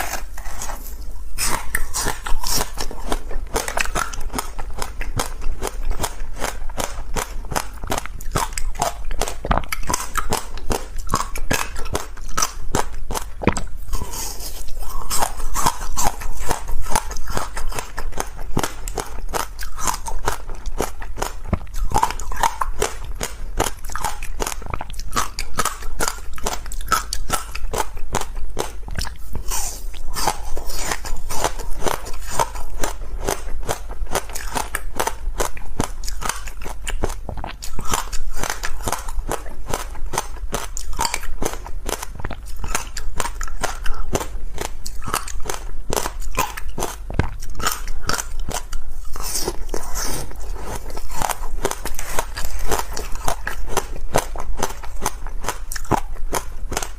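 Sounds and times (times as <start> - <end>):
chewing crunchy ice: 0.0 - 56.9.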